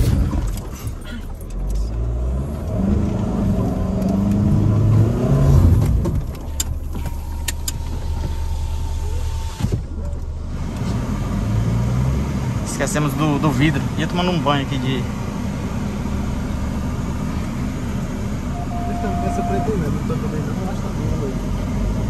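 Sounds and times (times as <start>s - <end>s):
car engine straining: 0.0s - 22.0s.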